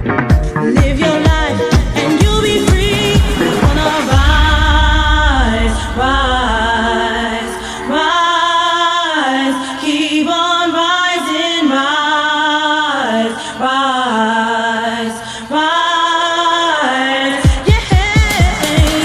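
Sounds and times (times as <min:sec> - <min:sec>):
sung vocal holding long notes: 0:01.0 - 0:17.4.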